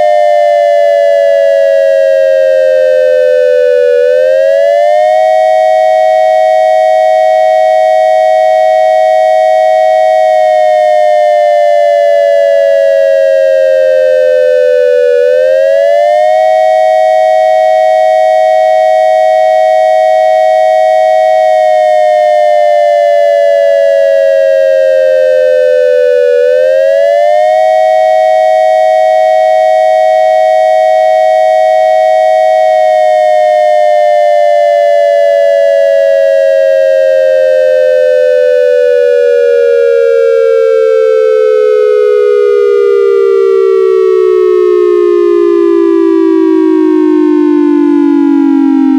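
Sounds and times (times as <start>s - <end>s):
synthesized siren tone: 0.0s - 48.9s.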